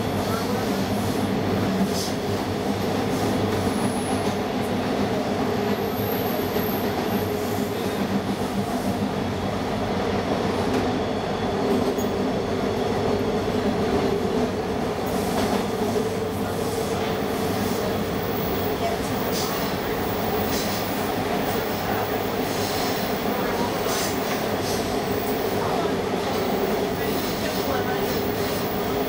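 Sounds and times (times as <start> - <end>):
subway train wheels rumbling: 0.0 - 29.0.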